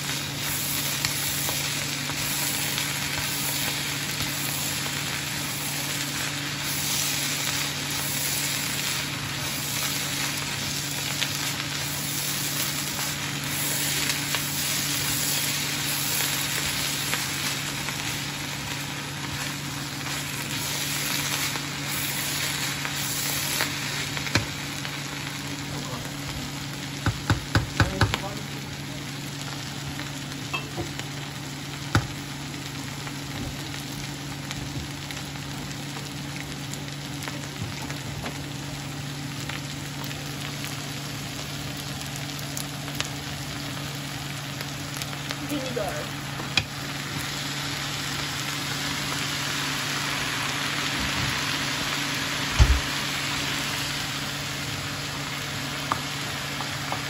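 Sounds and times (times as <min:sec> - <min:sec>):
vegetables sizzling in a pan: 0:00.0 - 0:57.0.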